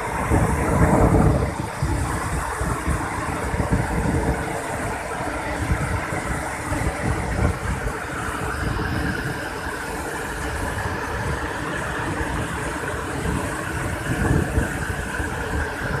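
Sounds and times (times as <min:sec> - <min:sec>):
water rushing through dam spillway: 0:00.0 - 0:16.0.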